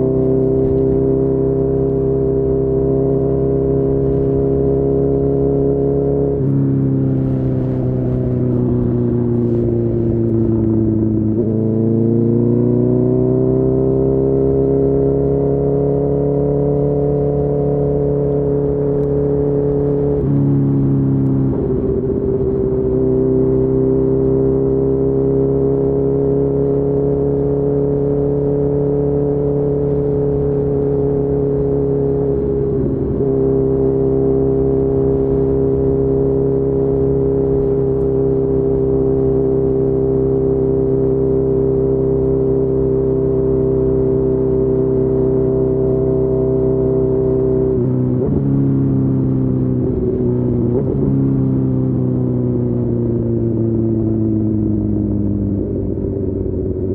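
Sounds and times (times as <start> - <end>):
engine downshifting: 0.0 - 56.9
motorcycle engine cruising: 0.0 - 56.9.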